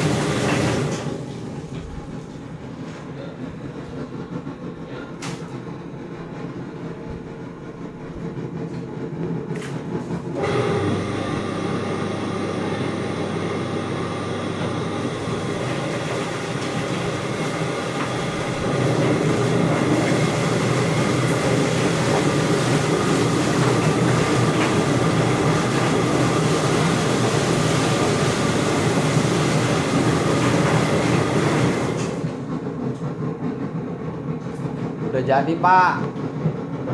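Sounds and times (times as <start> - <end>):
steady motor hum: 0.0 - 36.9.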